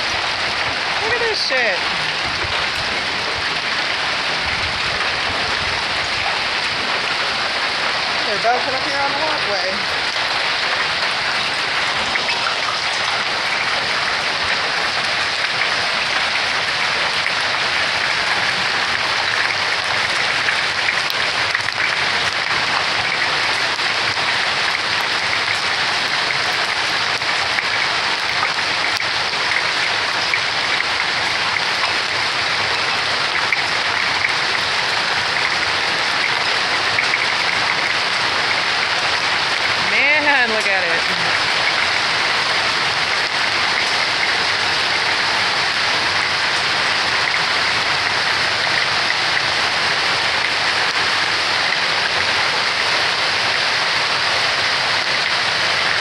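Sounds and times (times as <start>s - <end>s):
hail and rain clattering: 0.0s - 56.0s.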